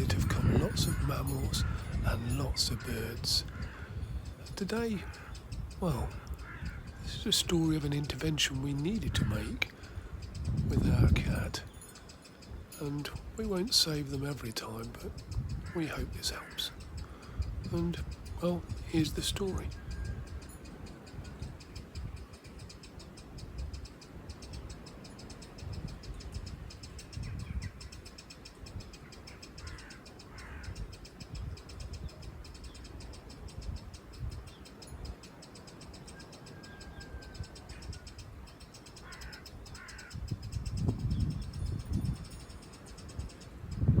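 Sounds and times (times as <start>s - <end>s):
harsh bird calls: 0.0s - 44.0s
wind buffeting microphone: 0.0s - 44.0s.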